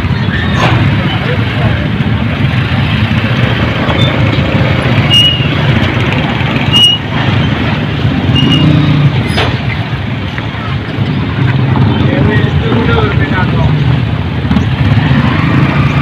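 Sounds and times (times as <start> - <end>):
motorbikes and cars passing: 0.0 - 16.0.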